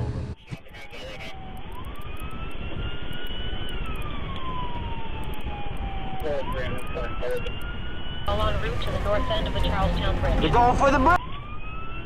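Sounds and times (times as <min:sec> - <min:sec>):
road and engine rumble: 0:00.0 - 0:12.0
police siren wailing: 0:00.4 - 0:12.0.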